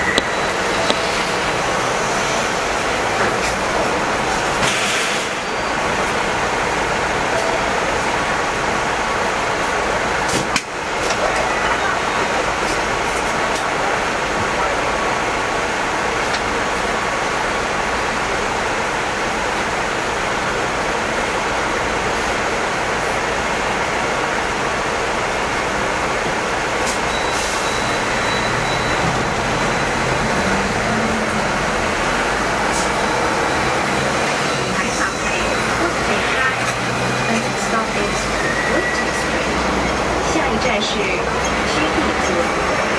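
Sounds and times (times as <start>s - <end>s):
bus passing alongside: 0.0s - 42.9s
road traffic: 0.0s - 42.9s
tram running noise: 0.0s - 42.9s.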